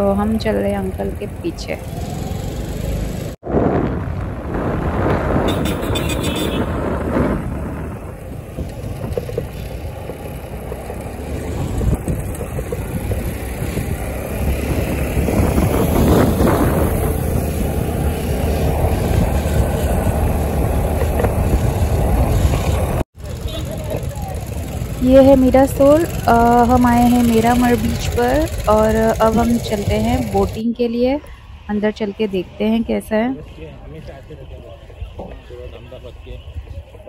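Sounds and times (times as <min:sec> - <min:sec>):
traffic engine rumble: 0:00.0 - 0:37.0.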